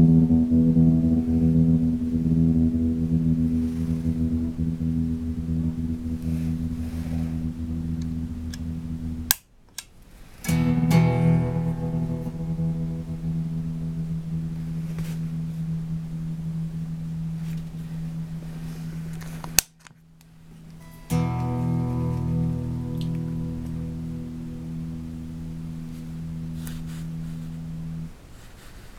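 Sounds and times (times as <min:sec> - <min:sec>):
electric guitar chords with tremolo: 0:00.0 - 0:09.4, 0:10.5 - 0:18.6, 0:20.7 - 0:28.1.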